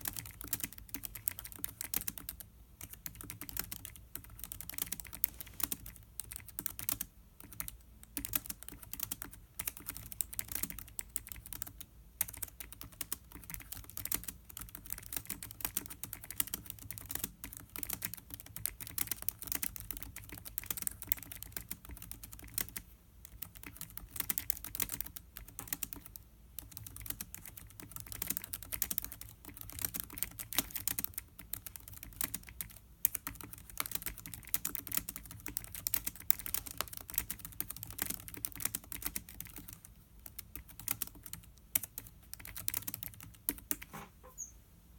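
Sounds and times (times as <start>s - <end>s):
laptop keyboard typing: 0.0s - 44.0s.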